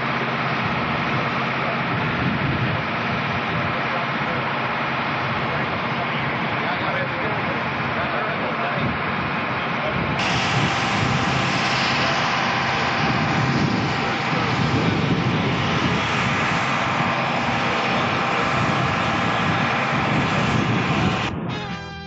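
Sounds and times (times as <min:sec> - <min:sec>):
aircraft engine drone: 0:00.0 - 0:22.0.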